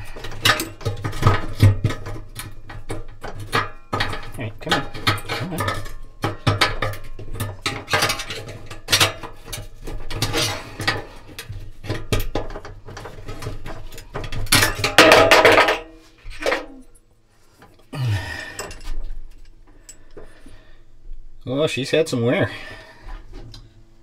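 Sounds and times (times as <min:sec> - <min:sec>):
metal clinking and scraping in drum: 0:00.0 - 0:20.5.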